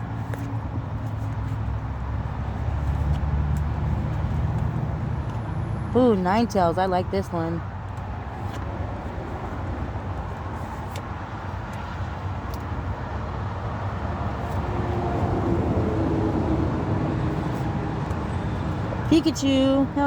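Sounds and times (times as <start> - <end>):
low rumble of vehicle noise: 0.0 - 20.0.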